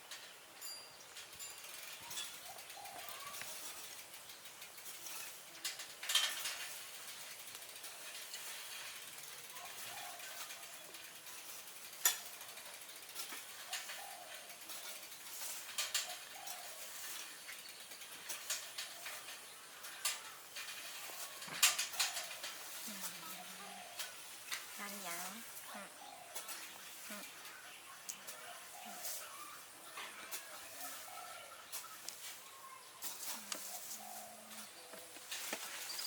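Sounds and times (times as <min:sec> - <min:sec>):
low steady hiss: 0:00.0 - 0:36.0.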